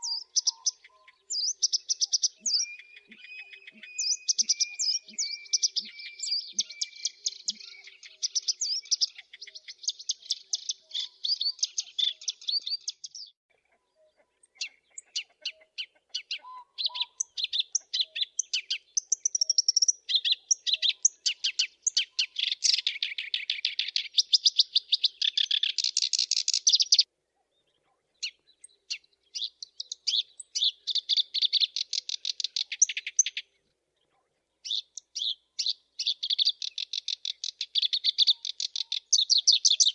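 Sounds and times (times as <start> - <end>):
reed warbler singing: 0.0 - 13.4, 14.4 - 27.1, 28.2 - 33.5, 34.6 - 39.9.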